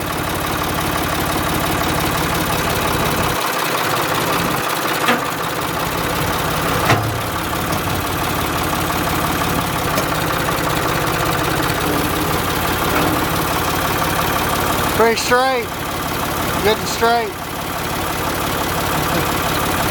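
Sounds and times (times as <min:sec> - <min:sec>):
engine running at low speed: 0:00.0 - 0:19.9.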